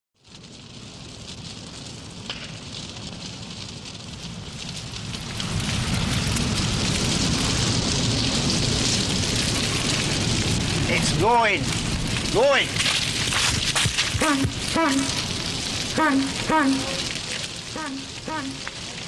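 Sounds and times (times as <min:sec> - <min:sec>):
wood fire crackling and hissing: 0:00.2 - 0:19.0.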